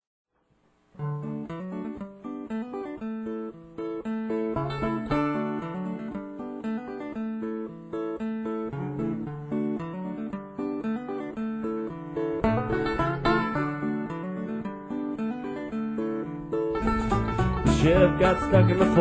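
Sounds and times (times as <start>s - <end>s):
acoustic guitar picking: 1.0s - 19.0s.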